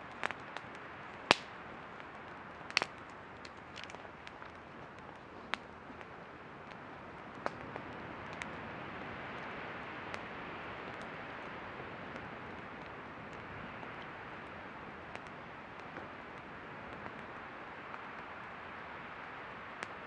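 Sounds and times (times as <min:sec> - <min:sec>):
burning wood popping and crackling: 0:00.0 - 0:20.0.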